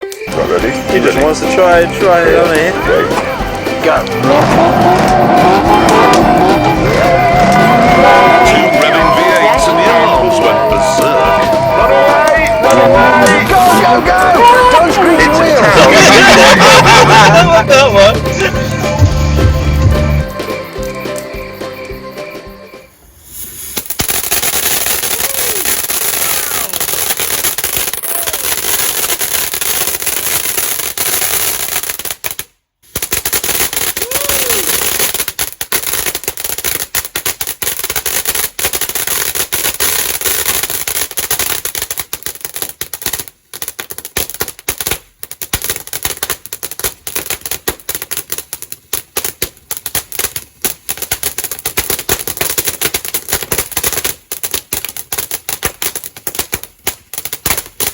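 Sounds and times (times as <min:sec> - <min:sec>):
firework whistles: 0:00.0 - 0:17.4, 0:18.3 - 0:54.2
fireworks crackling and banging: 0:00.0 - 0:57.9.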